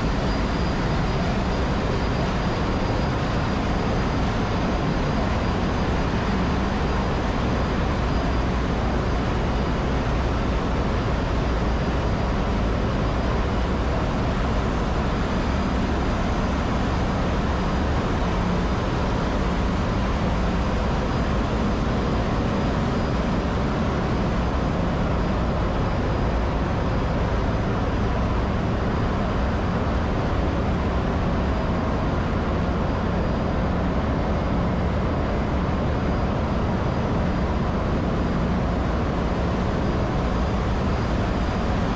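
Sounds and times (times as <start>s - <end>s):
faint steady whines: 0.0s - 41.9s.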